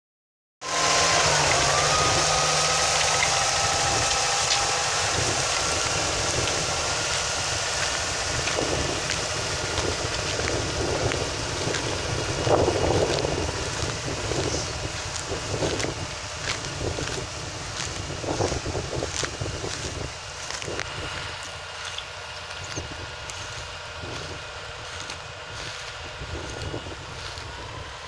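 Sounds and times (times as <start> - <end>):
tractor diesel engine running: 0.6 - 28.0
wind rumbling on microphone: 0.7 - 28.0.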